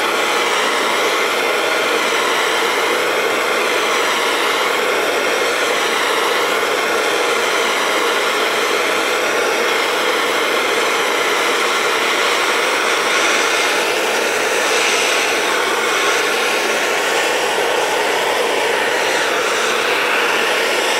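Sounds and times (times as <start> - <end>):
acetylene torch hissing: 0.1 - 20.9.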